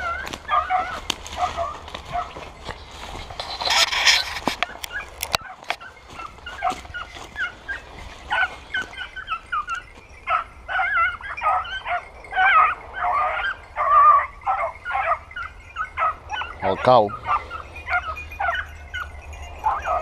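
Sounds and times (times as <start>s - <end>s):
puppies yelping: 0.0s - 20.0s.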